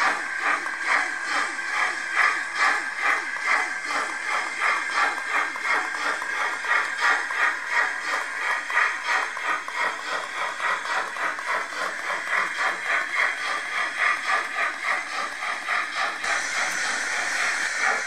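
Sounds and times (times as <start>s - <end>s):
steam hiss: 0.0s - 18.0s
steam locomotive exhaust chuffs: 0.0s - 18.0s.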